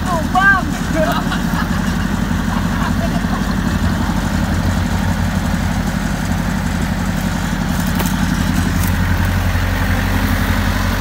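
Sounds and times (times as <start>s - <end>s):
diesel engine running at low revs: 0.0s - 11.0s.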